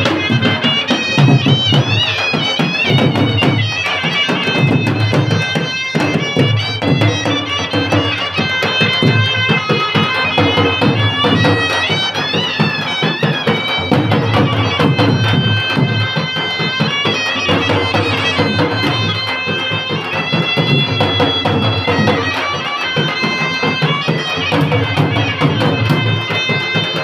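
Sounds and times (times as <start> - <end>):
drums beaten with sticks: 0.0 - 27.0
trumpet melody: 0.0 - 27.0.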